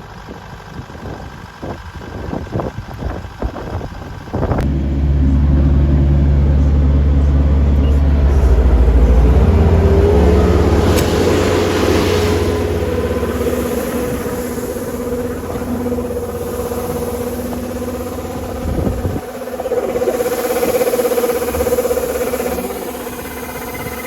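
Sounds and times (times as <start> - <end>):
engine running loudly: 0.0 - 24.0.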